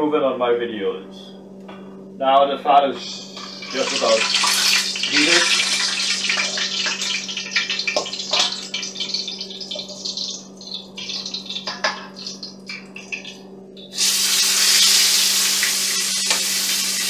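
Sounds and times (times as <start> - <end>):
steady low hum: 0.0 - 15.9
meat sizzling in hot oil: 3.0 - 17.0.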